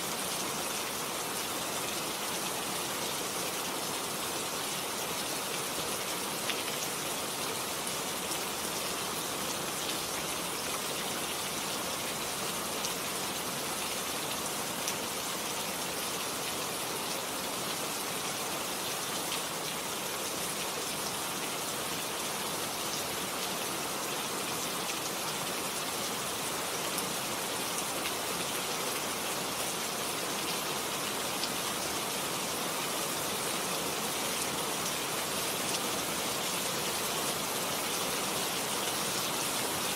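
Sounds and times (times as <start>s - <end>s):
rain falling on a garden: 0.0s - 39.9s.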